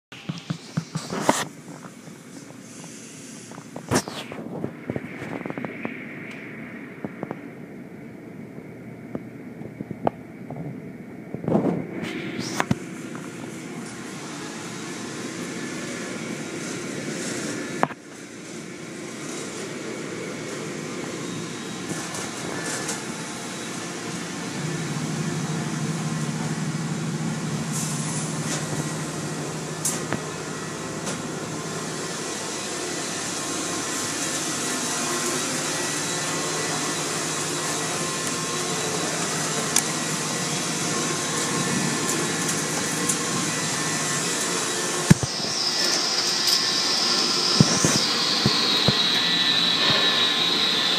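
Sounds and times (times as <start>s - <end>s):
car wash machinery hum: 0.1s - 50.9s.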